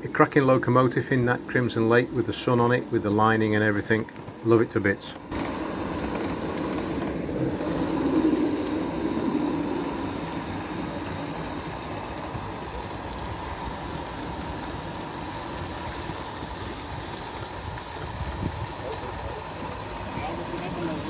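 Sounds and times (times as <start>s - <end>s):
model steam locomotive hissing: 0.0s - 21.0s.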